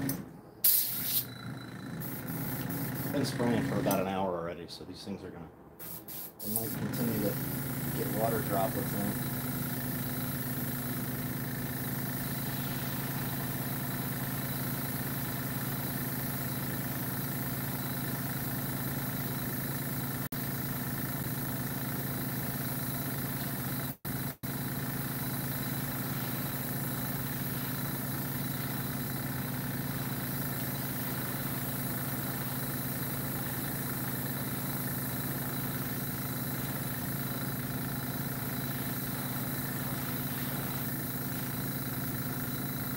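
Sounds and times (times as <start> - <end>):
airbrush compressor humming: 1.1 - 4.2, 5.8 - 42.9.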